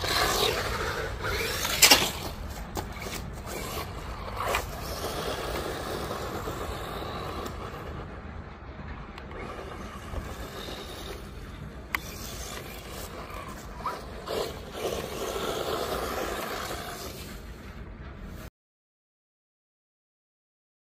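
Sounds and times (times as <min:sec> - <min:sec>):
low rumble: 0:00.0 - 0:18.5
rc truck driving over dirt: 0:00.0 - 0:18.5.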